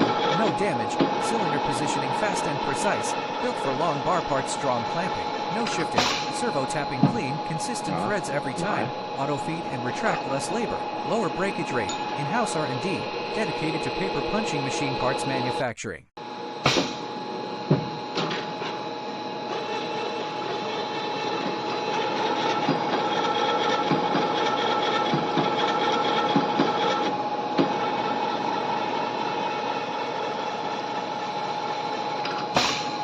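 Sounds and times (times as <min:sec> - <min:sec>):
machine whine and hum: 0:00.0 - 0:33.0.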